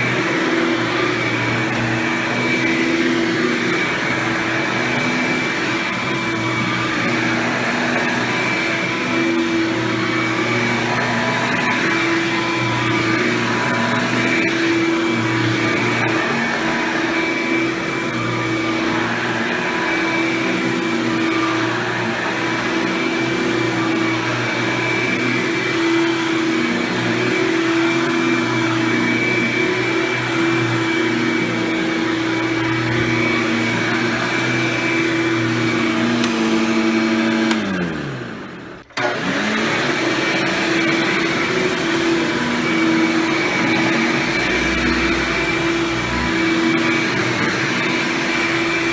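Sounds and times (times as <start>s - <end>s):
upright vacuum cleaner running: 0.0s - 48.9s.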